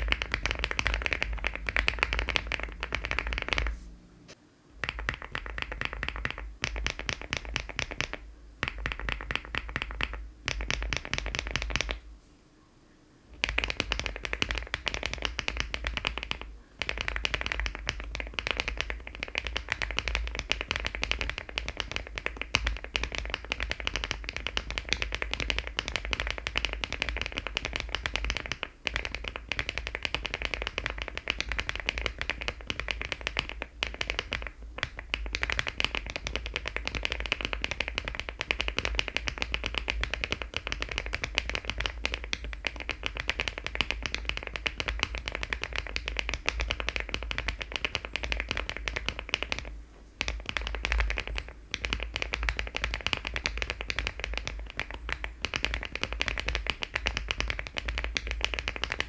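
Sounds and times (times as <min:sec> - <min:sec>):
mechanical keyboard typing: 0:00.0 - 0:03.7, 0:04.8 - 0:12.0, 0:13.4 - 0:59.0.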